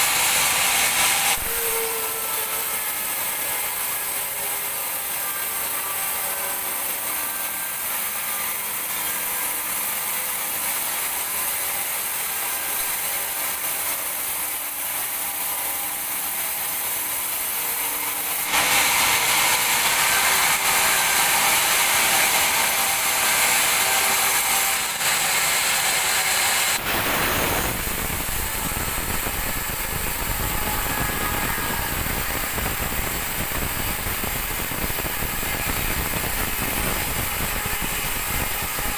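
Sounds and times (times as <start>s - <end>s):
band saw machinery running: 0.0s - 38.9s.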